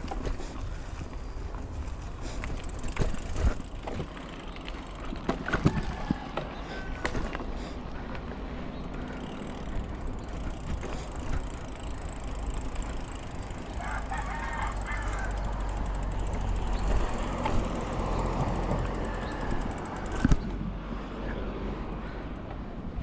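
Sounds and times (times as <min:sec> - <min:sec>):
mountain bike rattling over bumps: 0:00.0 - 0:21.2.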